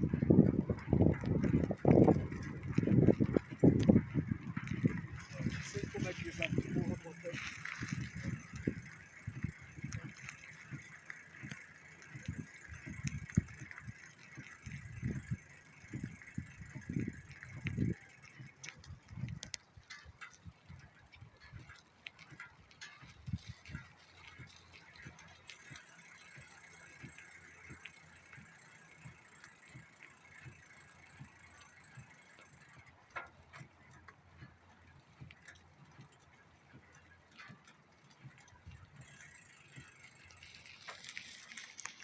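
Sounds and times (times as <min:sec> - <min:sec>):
bicycle freewheel ticking: 0:00.0 - 0:42.0
scattered clicks: 0:00.0 - 0:42.0.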